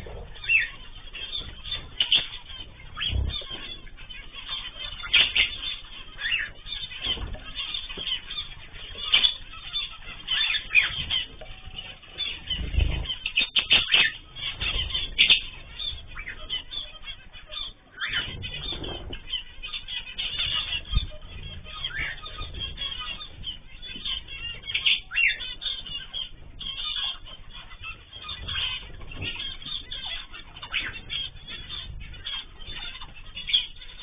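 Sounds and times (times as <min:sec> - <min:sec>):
birds chirping and squawking: 0:00.0 - 0:34.0.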